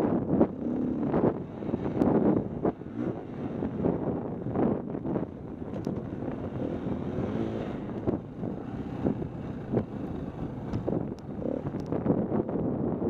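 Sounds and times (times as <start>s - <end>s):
dirt bike engine running: 0.0s - 13.0s
wind buffeting microphone: 0.0s - 13.0s.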